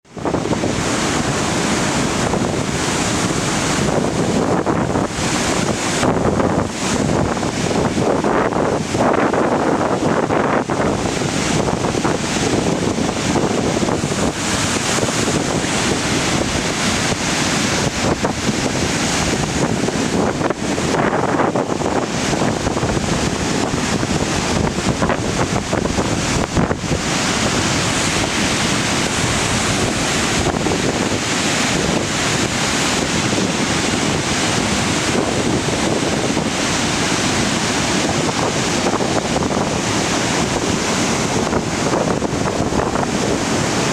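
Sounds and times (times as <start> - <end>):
waterfall rushing: 0.0 - 43.9
wind on microphone: 0.0 - 43.9.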